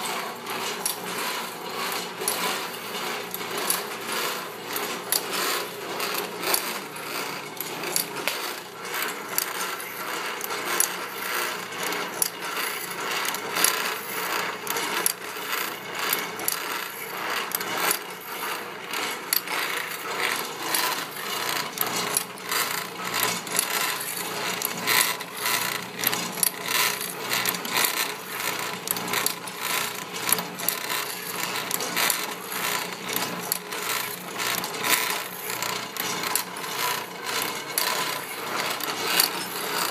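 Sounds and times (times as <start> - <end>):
saw sharpener mechanical clatter: 0.0 - 39.9.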